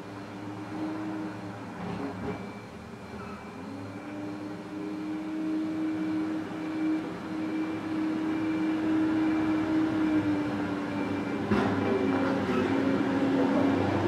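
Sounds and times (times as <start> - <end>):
excavator diesel engine drone: 0.0 - 14.0.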